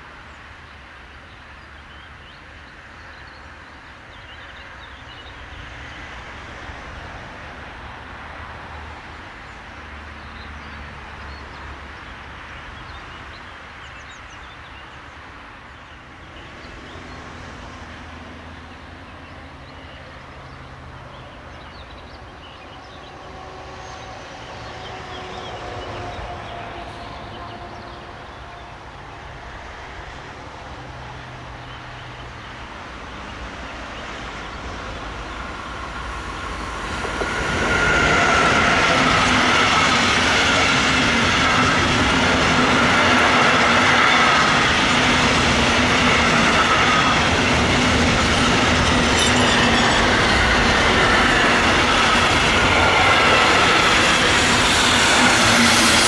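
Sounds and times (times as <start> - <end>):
faint locomotive whine: 0.0 - 56.0
freight train rumbling: 0.0 - 56.0.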